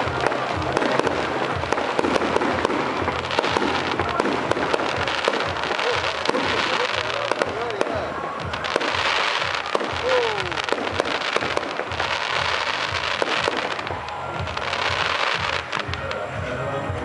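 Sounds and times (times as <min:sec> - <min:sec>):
fireworks popping: 0:00.0 - 0:16.3
fireworks crackling: 0:00.0 - 0:17.0.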